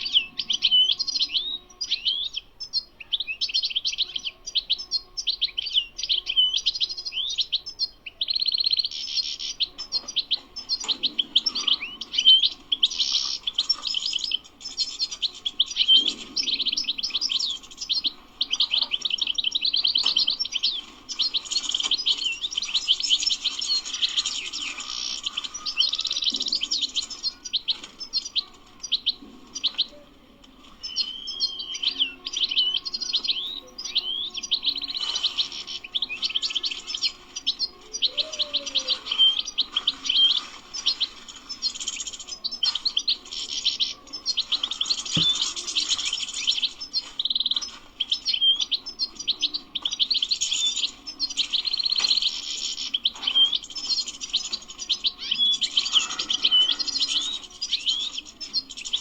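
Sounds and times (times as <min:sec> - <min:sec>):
goldfinch singing: 0:00.0 - 0:59.0.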